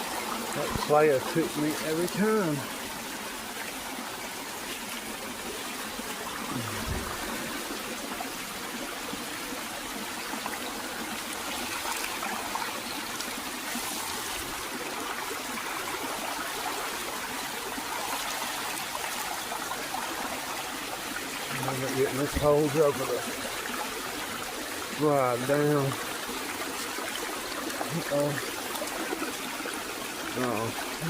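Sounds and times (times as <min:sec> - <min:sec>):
stream trickling: 0:00.0 - 0:31.0.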